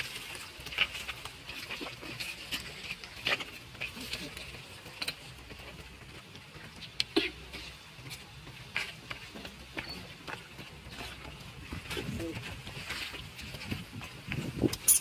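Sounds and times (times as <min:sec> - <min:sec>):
small rustles: 0:00.0 - 0:15.0.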